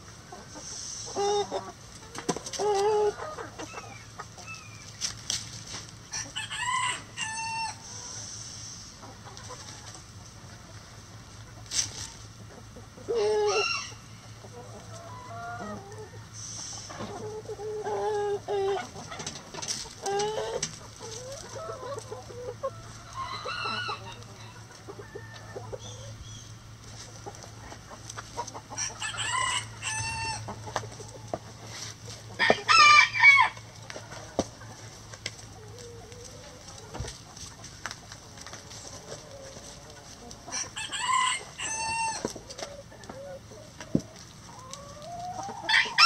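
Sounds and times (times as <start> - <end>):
hens clucking: 0.0 - 46.0
hens squawking: 0.2 - 5.0, 11.5 - 46.0.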